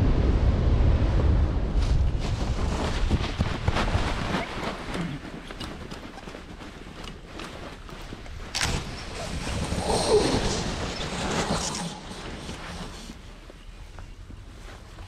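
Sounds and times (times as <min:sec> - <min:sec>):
wind on microphone: 0:00.0 - 0:13.3
paraglider wing rustling: 0:01.7 - 0:15.0.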